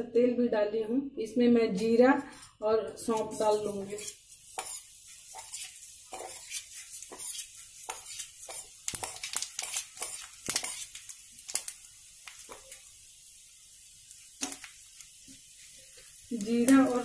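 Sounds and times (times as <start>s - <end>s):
seeds popping in hot oil: 3.1s - 17.0s.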